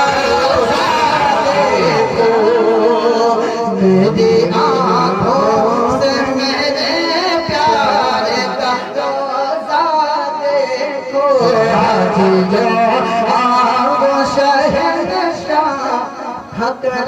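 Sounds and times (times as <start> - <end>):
man singing devotional verse: 0.0 - 17.0.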